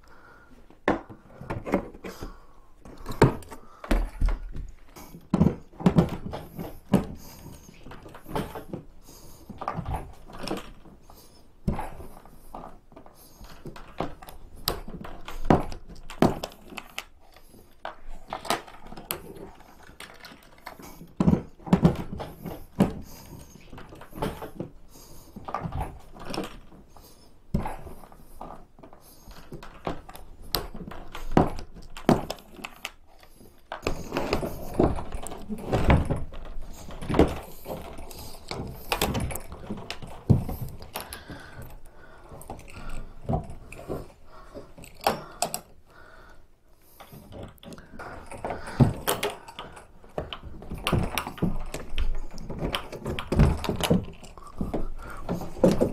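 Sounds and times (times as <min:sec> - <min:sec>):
plastic kayak parts clattering: 0:00.7 - 0:45.8, 0:46.9 - 0:55.9.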